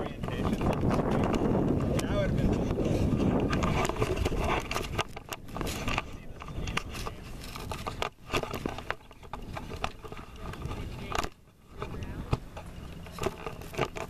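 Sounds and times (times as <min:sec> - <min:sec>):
wind rumble on microphone: 0:00.0 - 0:14.0
camera handling clicks and scrapes: 0:00.2 - 0:14.0.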